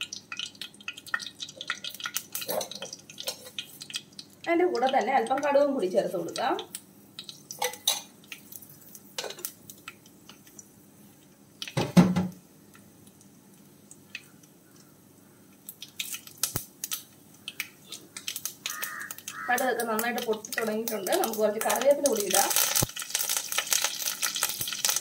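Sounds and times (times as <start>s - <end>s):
seeds popping in hot oil: 0.0s - 10.8s, 11.4s - 25.0s.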